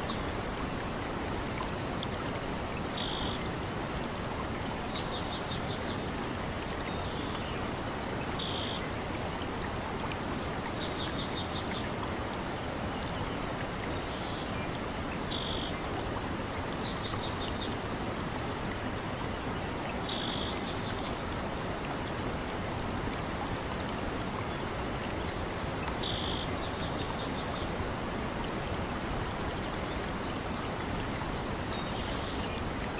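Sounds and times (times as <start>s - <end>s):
stream water flowing: 0.0s - 32.9s.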